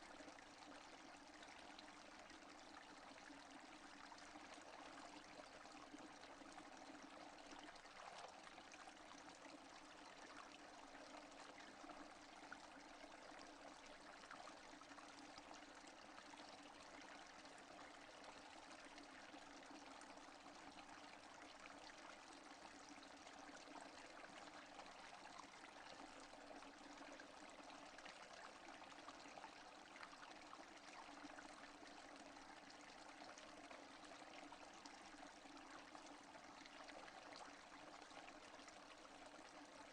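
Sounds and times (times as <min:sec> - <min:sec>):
faint steady rain: 0:00.0 - 0:39.9.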